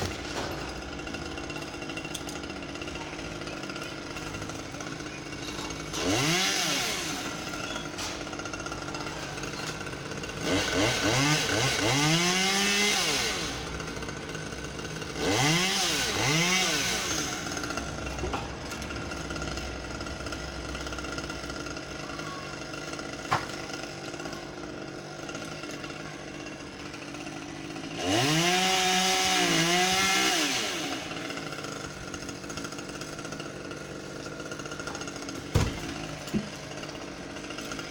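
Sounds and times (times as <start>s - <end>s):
chainsaw idling and revving: 0.0s - 37.9s.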